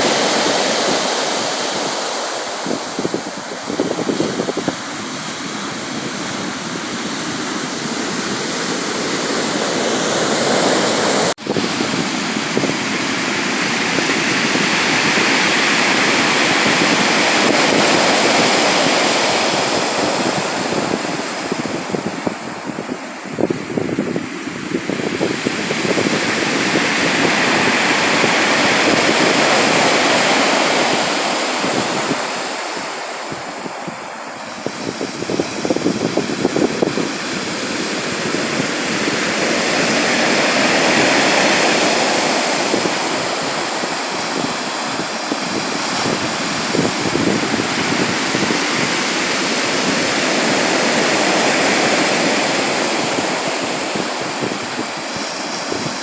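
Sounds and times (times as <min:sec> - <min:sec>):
waves breaking: 0:00.0 - 0:56.0.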